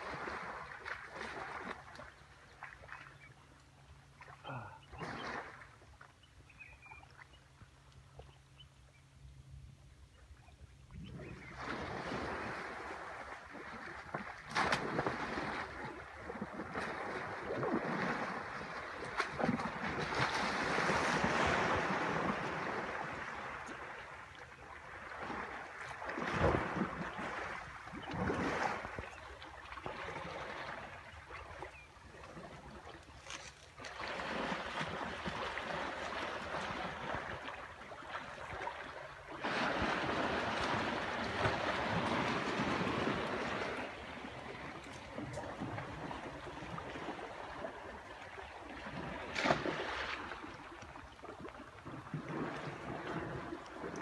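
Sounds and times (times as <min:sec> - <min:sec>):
water splashing and sloshing: 0:00.0 - 0:08.7, 0:09.4 - 0:54.0.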